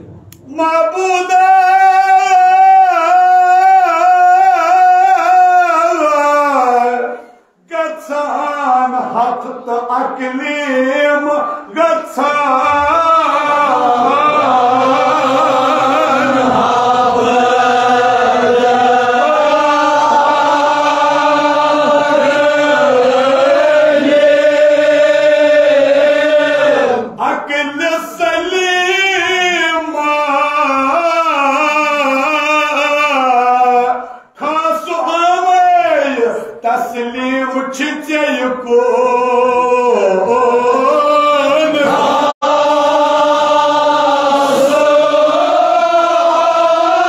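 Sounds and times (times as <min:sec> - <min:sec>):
men chanting an elegy: 0:00.5 - 0:47.0.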